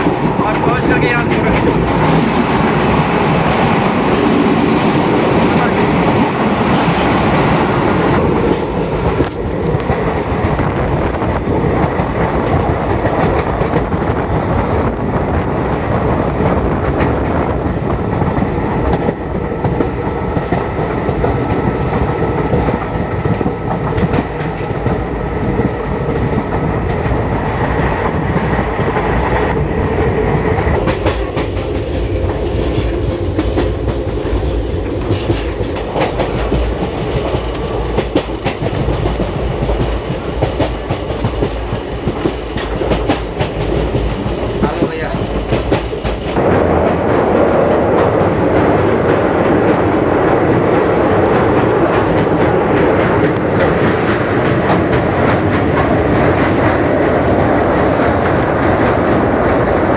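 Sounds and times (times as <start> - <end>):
train rumble: 0.0 - 59.9
train wheels clacking over rail joints: 0.0 - 59.9.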